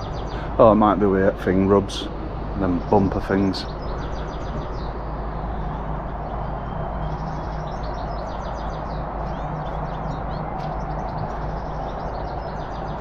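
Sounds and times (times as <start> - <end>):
faint constant hum: 0.0 - 13.0
low background rumble: 0.0 - 13.0
small birds chirping: 0.0 - 13.0.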